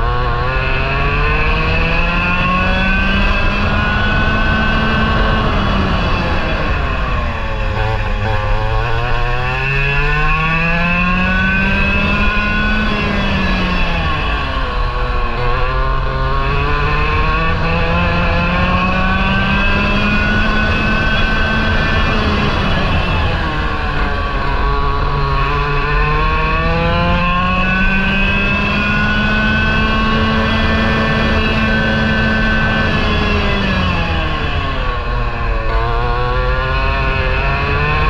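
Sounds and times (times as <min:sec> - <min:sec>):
kart engine revving: 0:00.0 - 0:38.0.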